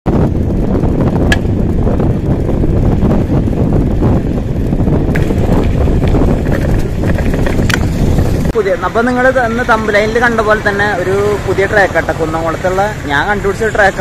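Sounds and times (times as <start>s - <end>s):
wind buffeting microphone: 0.0s - 14.0s
bicycle tyres rumbling: 0.1s - 14.0s.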